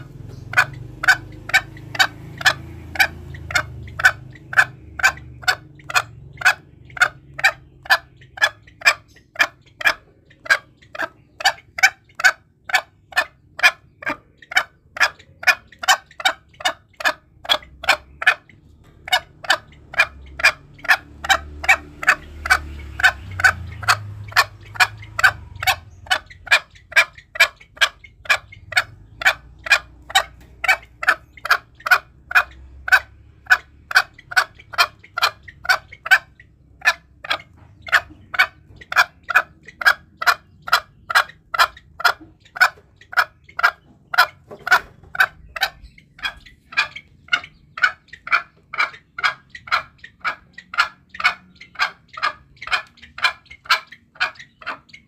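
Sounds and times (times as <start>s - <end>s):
junglefowl clucking calls: 0.0s - 55.0s.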